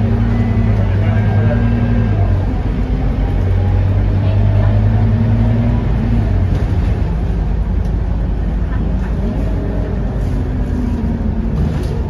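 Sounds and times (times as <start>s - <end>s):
bus diesel engine droning: 0.0s - 12.0s
road and tyre noise: 0.0s - 12.0s.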